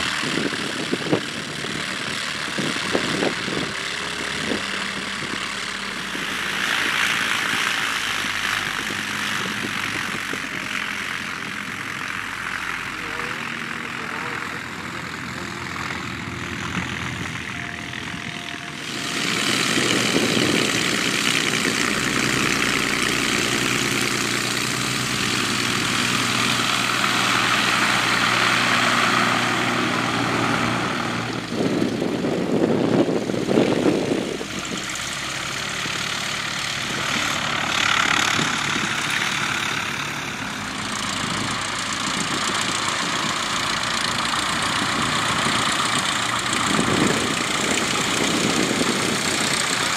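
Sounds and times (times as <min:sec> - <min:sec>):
heavier rumble: 0:00.0 - 0:49.9
light aircraft engines droning: 0:00.0 - 0:49.9.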